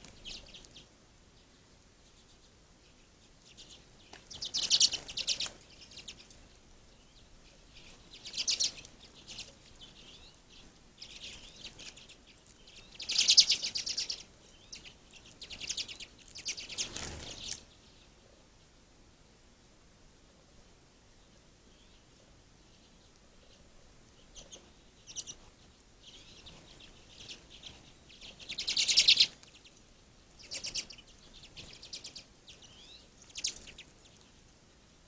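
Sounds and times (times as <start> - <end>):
songbirds twittering: 0.0 - 18.8, 21.0 - 34.7.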